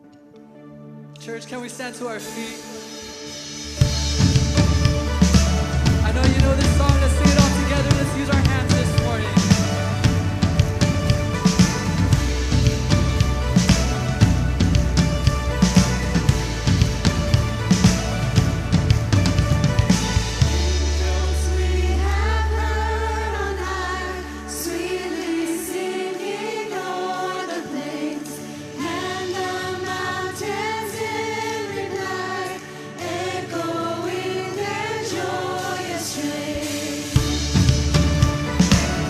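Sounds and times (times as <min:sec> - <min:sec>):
worship band with singers: 0:01.2 - 0:39.0
drums: 0:02.2 - 0:39.0.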